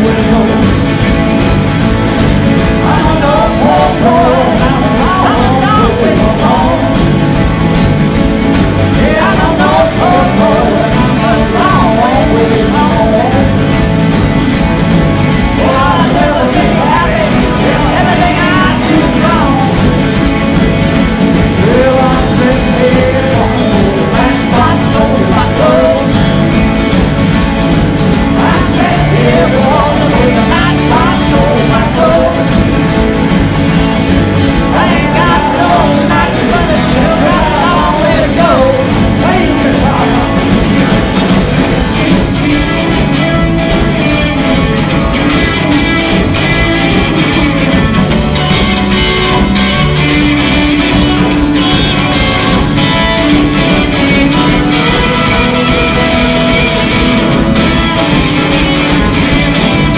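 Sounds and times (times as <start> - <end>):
drums: 0.0 - 59.9
electric guitar lead: 0.0 - 59.9
strummed acoustic guitars: 0.0 - 59.9.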